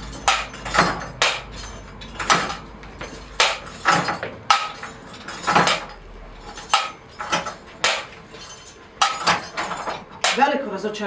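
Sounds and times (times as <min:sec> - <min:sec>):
metallic percussive strikes: 0:00.0 - 0:10.5.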